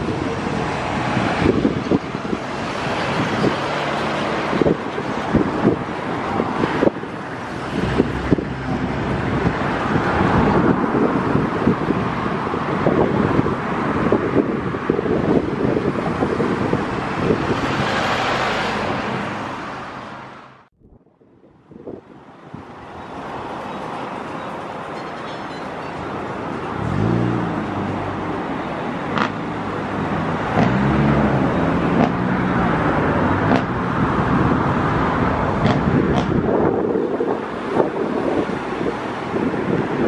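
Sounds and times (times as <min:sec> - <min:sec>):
wind gusting on microphone: 0:00.0 - 0:40.0.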